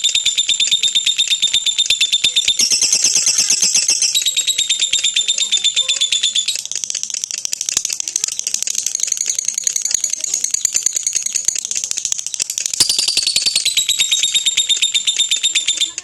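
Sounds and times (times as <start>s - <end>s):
lovebird trilling song: 0.0s - 16.0s.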